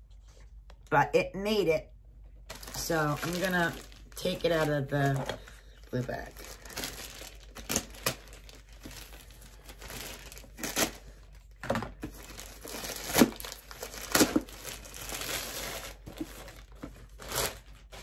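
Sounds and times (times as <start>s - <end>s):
plastic bag crinkling: 2.5s - 18.0s.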